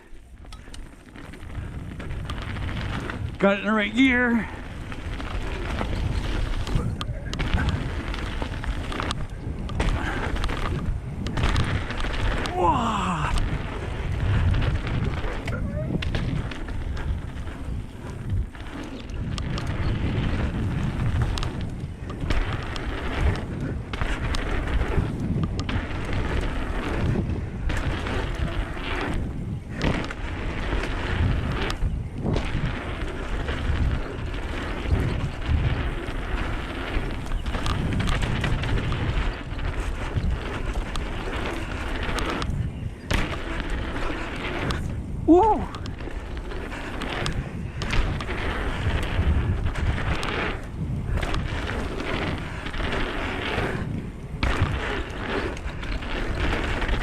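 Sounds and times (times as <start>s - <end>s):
bike tyre and frame rattles: 0.0s - 57.0s
wind rumble on microphone: 0.0s - 57.0s.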